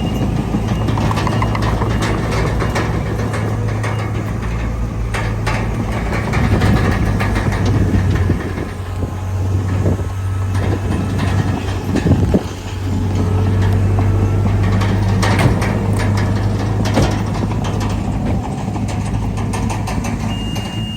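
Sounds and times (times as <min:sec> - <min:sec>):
bulldozer diesel engine running: 0:00.0 - 0:20.9
steel tracks clanking and squeaking: 0:00.0 - 0:20.9.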